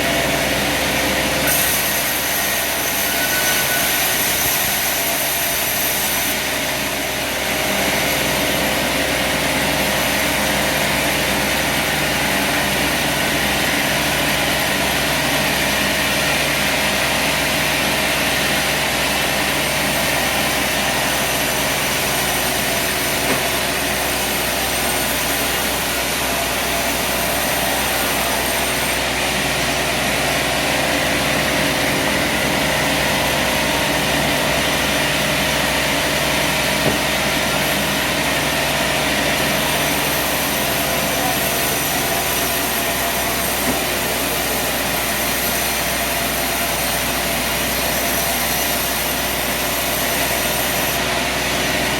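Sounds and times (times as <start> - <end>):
sawmill sawing log: 0.0 - 51.9.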